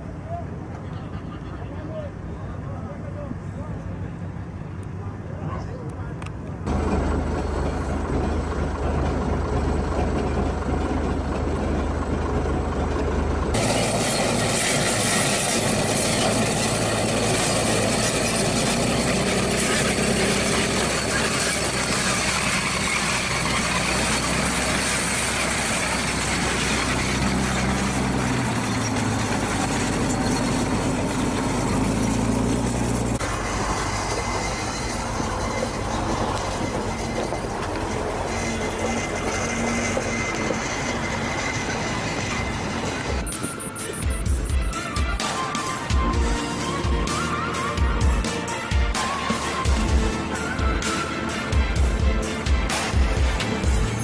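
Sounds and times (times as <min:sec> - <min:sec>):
armoured vehicle engine: 0:00.0 - 0:54.0
tracks clattering: 0:06.2 - 0:54.0.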